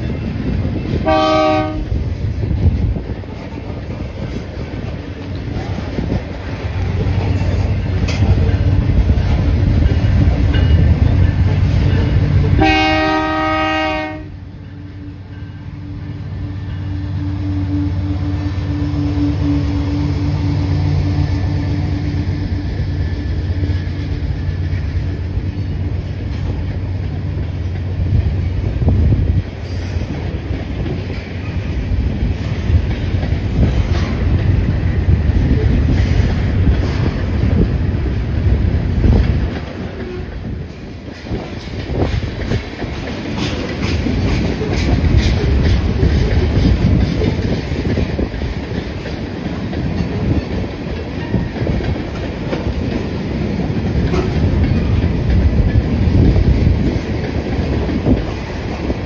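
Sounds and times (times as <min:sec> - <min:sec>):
wheels clacking over rail joints: 0:00.0 - 0:13.9, 0:17.9 - 0:59.0
diesel locomotive hum: 0:00.0 - 0:59.0
train wheels rumbling: 0:00.0 - 0:59.0.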